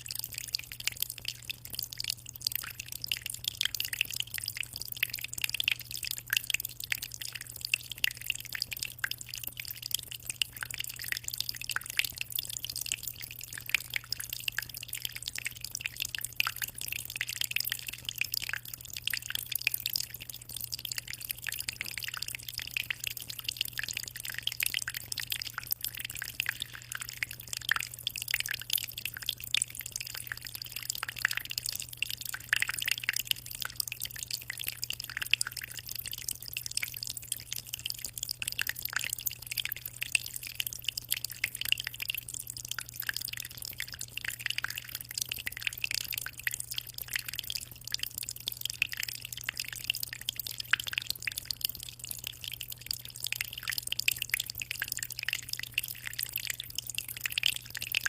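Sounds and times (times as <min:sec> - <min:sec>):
aquarium water trickling: 0:00.0 - 0:58.0.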